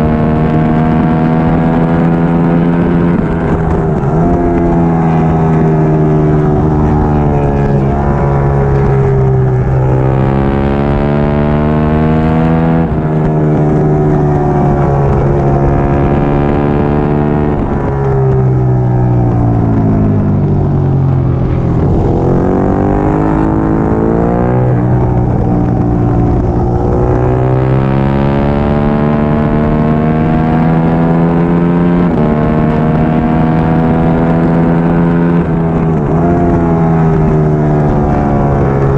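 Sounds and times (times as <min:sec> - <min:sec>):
motorcycle engine revving hard: 0:00.0 - 0:18.7, 0:19.5 - 0:38.9.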